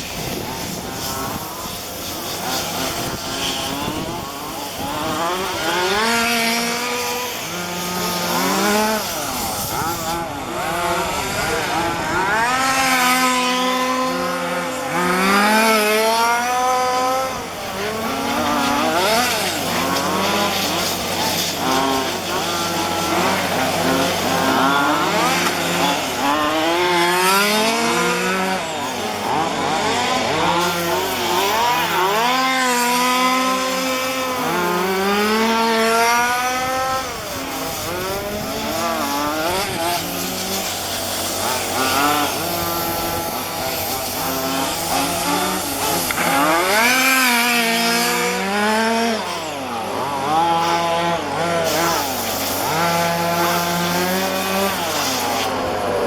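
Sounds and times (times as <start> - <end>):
small two-stroke engines revving: 0.0 - 56.0.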